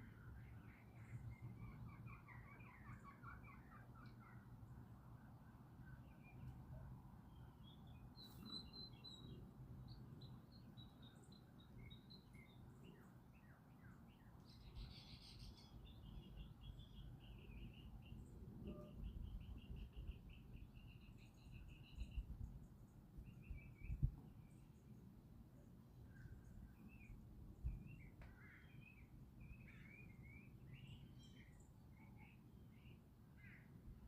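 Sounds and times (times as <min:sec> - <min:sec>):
small birds chirping: 0:00.0 - 0:05.0, 0:05.8 - 0:34.0.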